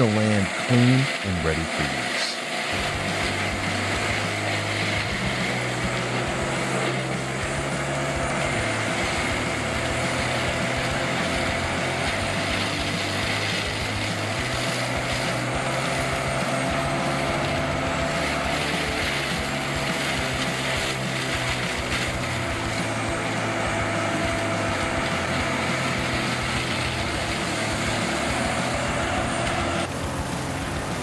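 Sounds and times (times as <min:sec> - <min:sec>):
diesel engine drone: 0:00.0 - 0:31.0.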